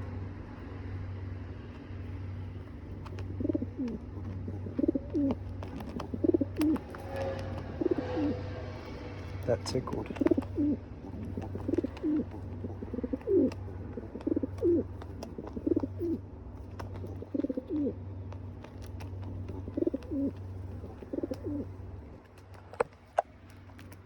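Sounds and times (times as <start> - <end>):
steady low hum: 0.0 - 24.0
pigeon cooing: 1.7 - 24.0.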